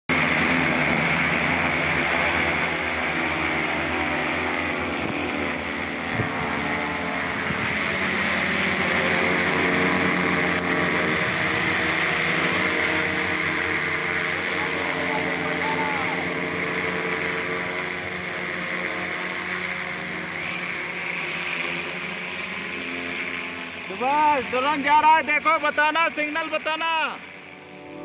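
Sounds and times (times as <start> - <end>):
drone propellers humming: 0.1 - 28.0.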